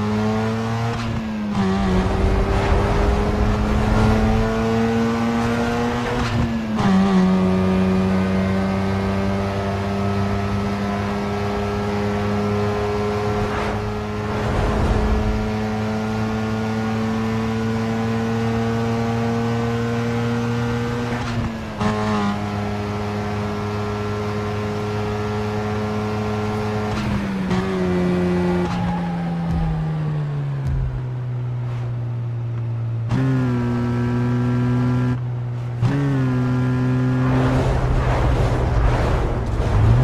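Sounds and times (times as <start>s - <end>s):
car engine and loud exhaust: 0.0s - 40.0s.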